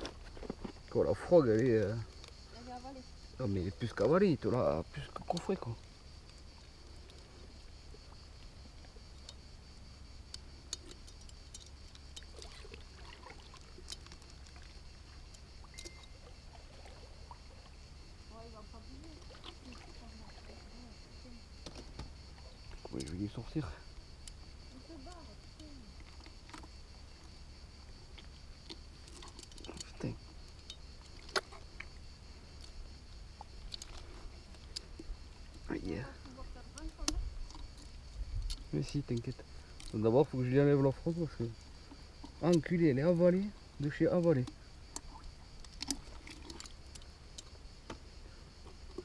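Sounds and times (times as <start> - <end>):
small water splashes: 0.0 - 49.0
water sloshing and trickling: 0.0 - 49.0.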